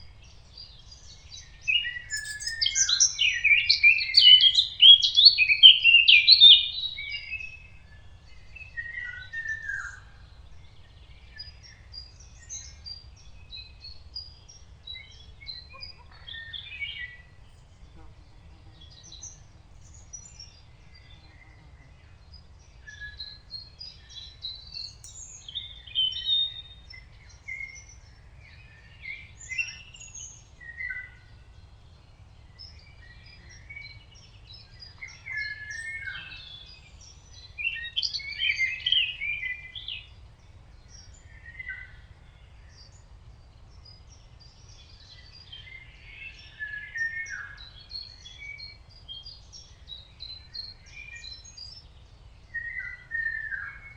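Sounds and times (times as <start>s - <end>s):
birds chirping and trilling: 0.0s - 53.9s.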